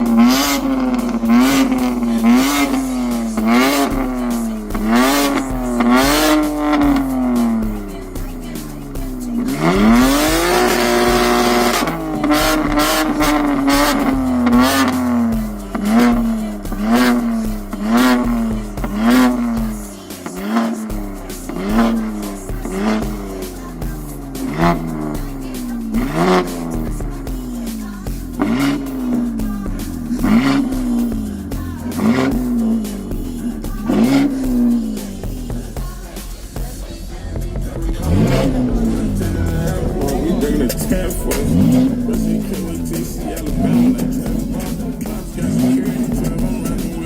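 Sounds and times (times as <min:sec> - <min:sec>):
car engine revving: 0:00.0 - 0:47.0.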